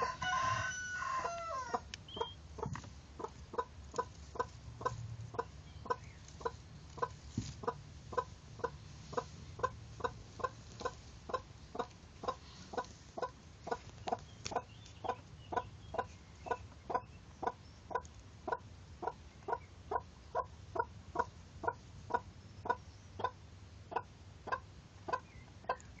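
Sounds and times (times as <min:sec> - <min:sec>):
hen clucking: 0:00.0 - 0:26.0.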